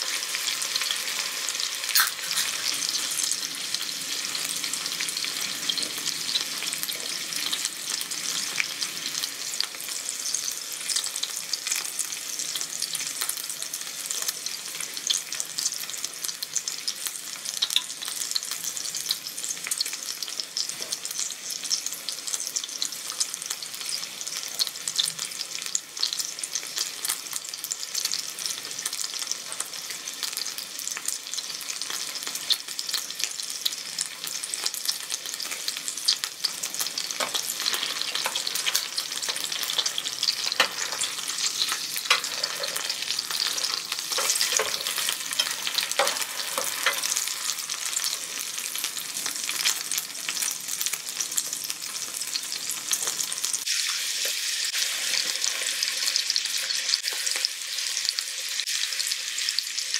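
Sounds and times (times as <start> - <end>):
steak sizzling on a griddle: 0.0 - 59.9.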